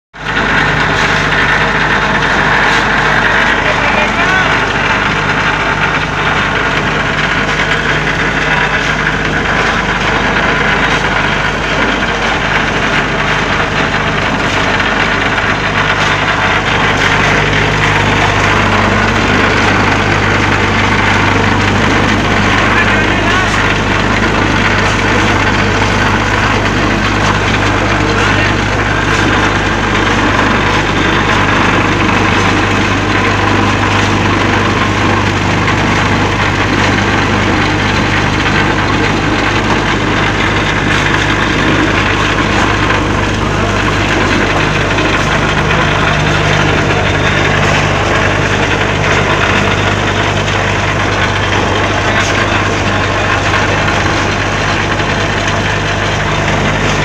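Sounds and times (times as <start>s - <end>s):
vibrating table humming and rattling: 0.2s - 57.0s.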